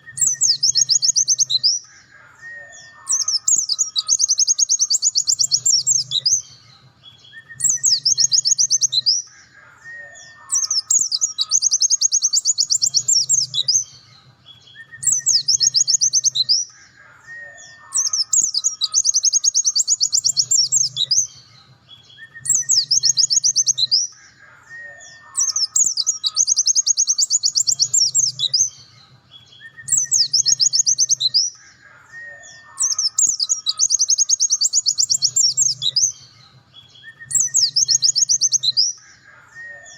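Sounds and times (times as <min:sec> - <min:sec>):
bird high trilling song: 0:00.0 - 0:39.9.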